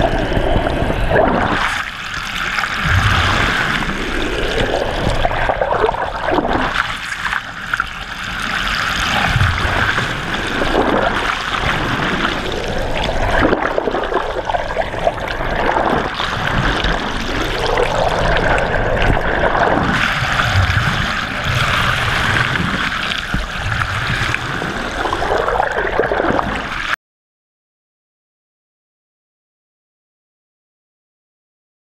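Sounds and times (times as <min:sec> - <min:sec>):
underwater water rushing hiss: 0:00.0 - 0:26.9
water gurgling: 0:00.0 - 0:27.0.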